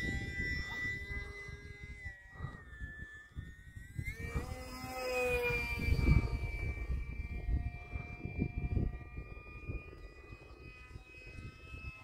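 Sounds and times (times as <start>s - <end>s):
model plane motor whining: 0.0s - 12.0s
wind rumble on microphone: 0.0s - 12.0s.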